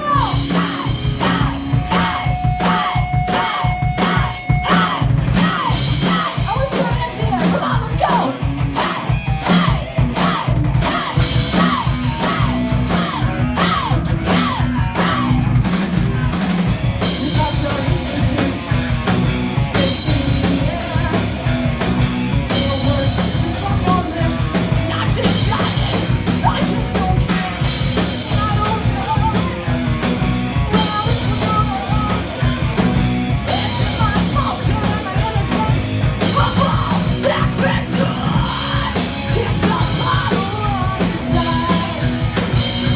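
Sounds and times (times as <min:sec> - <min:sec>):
live metal band playing: 0:00.0 - 0:42.9
vocalist singing and yelling: 0:00.0 - 0:42.9.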